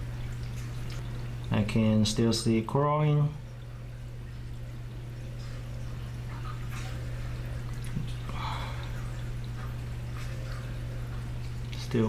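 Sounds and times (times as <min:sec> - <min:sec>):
aquarium pump low hum: 0:00.0 - 0:12.0
water trickling and dripping: 0:00.0 - 0:12.0.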